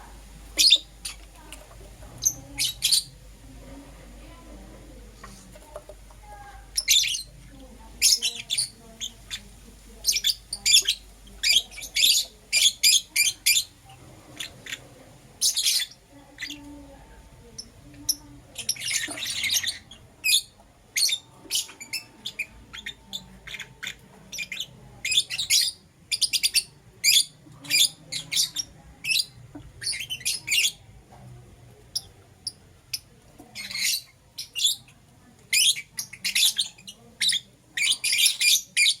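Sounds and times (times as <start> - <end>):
lovebirds chirping: 0.0 - 31.1, 31.7 - 39.0.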